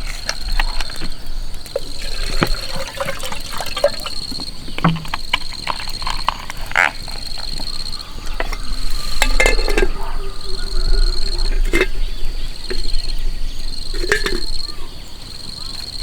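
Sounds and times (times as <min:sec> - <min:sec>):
frogs croaking: 0:00.0 - 0:16.0
high-pitched insect trill: 0:00.0 - 0:16.0.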